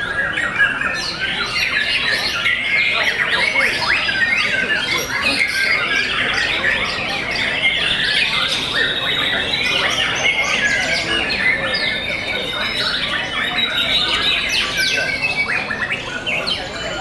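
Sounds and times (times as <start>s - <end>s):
chorus of birds singing: 0.0s - 17.0s.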